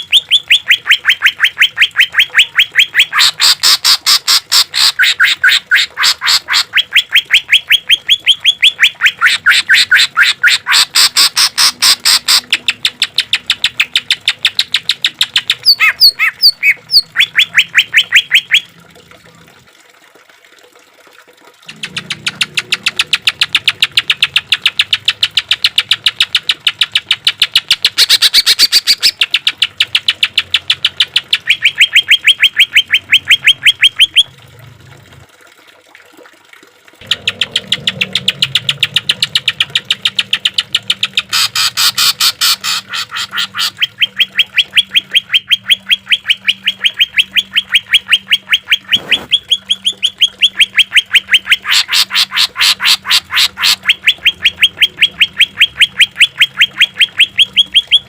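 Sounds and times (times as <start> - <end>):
bird singing sharp repeated notes: 0.0 - 18.7, 21.7 - 34.3, 37.0 - 58.0.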